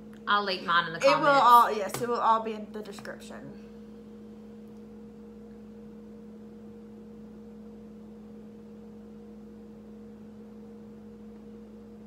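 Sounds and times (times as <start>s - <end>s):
two-tone electrical hum: 0.0s - 12.0s.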